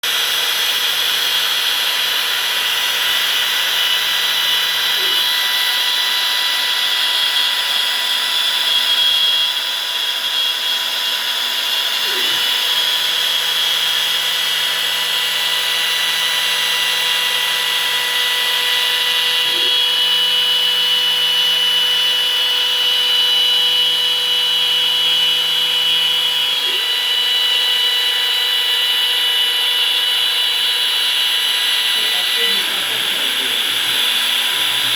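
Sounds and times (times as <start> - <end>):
milling machine whine: 0.0 - 34.9.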